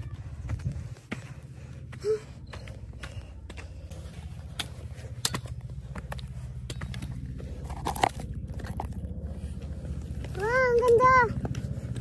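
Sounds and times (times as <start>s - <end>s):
footsteps on rocky trail: 0.0s - 12.0s
steady low rumble: 0.0s - 12.0s.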